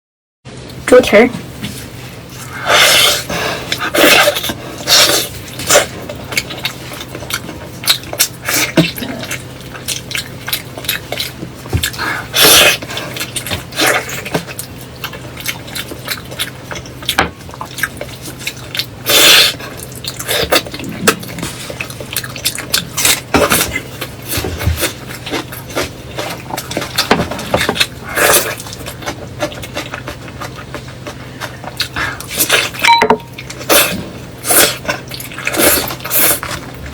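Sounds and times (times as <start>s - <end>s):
faint steady hum: 0.5s - 36.9s
eating crunches and mouth noises: 1.5s - 36.9s.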